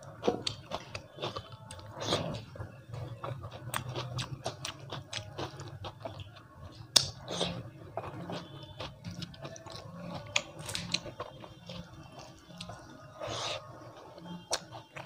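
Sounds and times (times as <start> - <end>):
close chewing with mouth clicks: 0.0 - 15.0.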